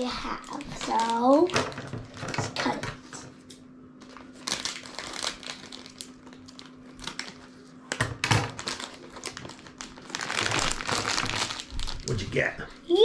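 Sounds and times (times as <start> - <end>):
plastic wrapper crinkling: 0.0 - 2.8, 4.0 - 12.3.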